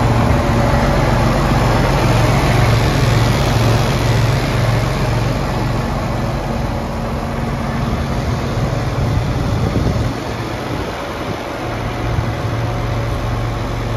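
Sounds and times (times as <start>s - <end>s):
diesel tractor engine idling: 0.0s - 13.9s.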